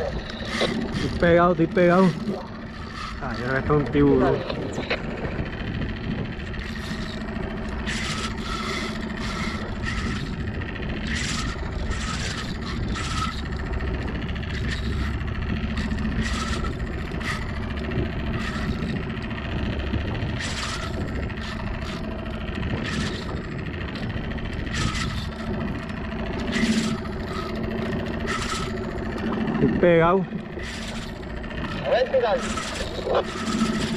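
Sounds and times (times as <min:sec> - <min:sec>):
fishing reel cranking: 0:00.0 - 0:33.9
steady low hum: 0:00.0 - 0:33.9.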